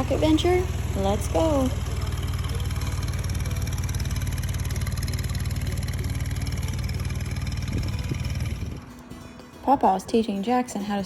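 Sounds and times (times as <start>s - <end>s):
small engine idling: 0.0s - 9.2s.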